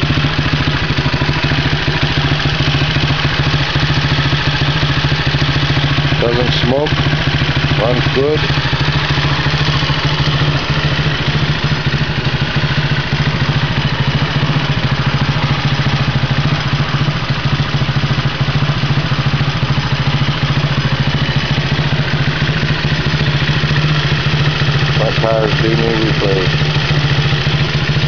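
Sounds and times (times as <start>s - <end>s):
atv engine idling: 0.0s - 28.0s.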